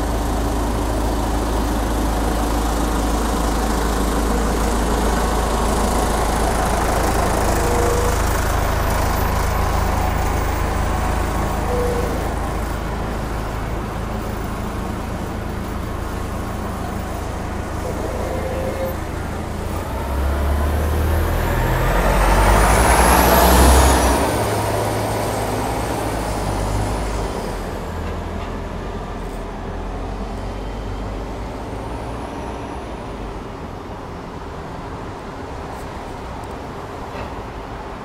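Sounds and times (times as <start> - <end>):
bus engine rumbling: 0.0 - 38.0
high engine whine: 0.0 - 38.0.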